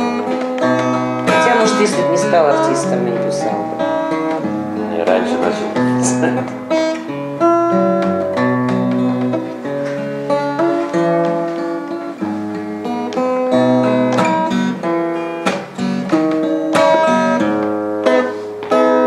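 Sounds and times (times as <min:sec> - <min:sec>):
acoustic guitar playing chords: 0:00.0 - 0:19.0.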